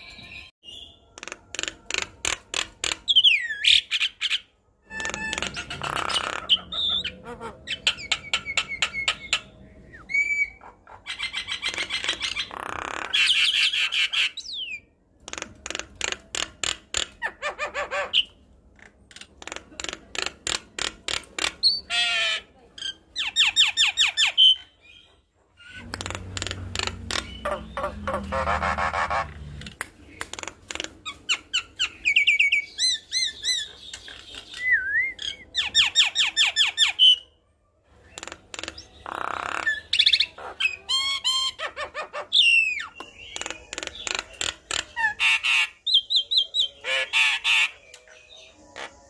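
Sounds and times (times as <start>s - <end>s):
myna bird singing: 0.0s - 49.0s.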